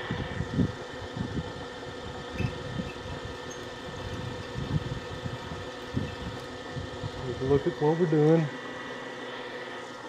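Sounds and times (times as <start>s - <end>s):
milling machine motor hum: 0.0s - 10.0s.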